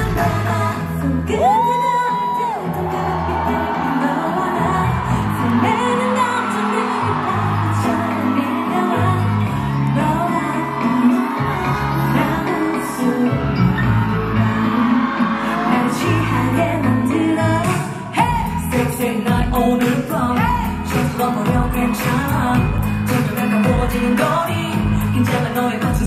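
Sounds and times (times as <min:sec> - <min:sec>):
pop song with singing: 0:00.0 - 0:26.0.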